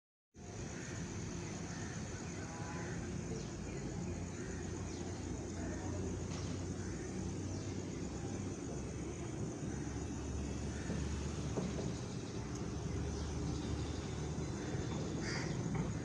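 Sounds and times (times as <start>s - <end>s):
distant train rumble: 0.4s - 16.0s
faint chirps: 0.4s - 16.0s.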